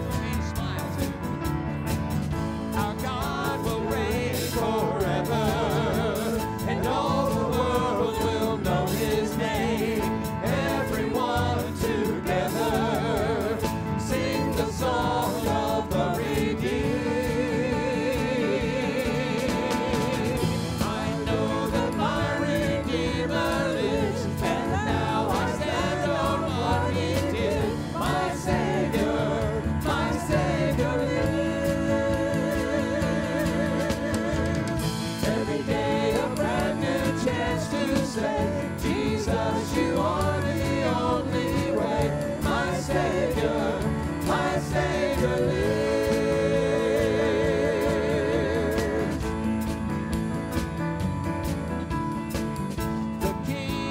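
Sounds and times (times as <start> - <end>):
band playing: 0.0 - 53.9
voices singing gospel song: 0.0 - 53.9.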